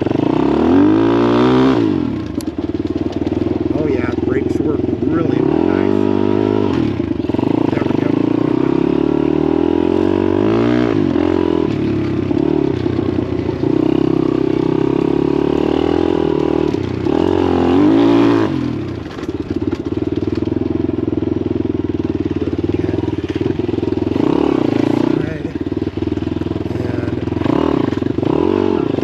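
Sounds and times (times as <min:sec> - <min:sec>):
motorbike engine revving: 0:00.0 - 0:29.0.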